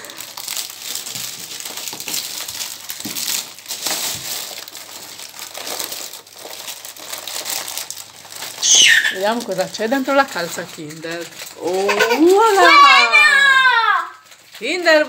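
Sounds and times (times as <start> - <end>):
plastic and foil wrapping rustling: 0.0 - 15.0.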